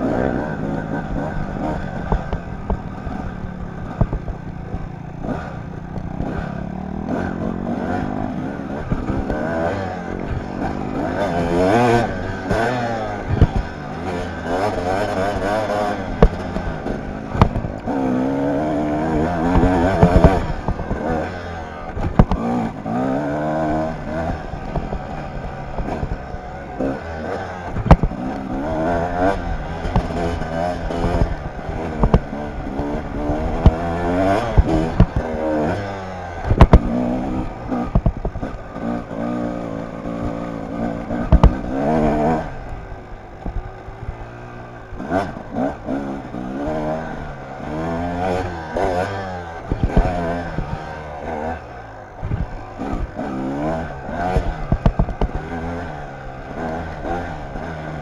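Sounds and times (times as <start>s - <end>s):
bike knocking and rattling: 0.0s - 58.0s
dirt bike engine revving: 0.0s - 58.0s.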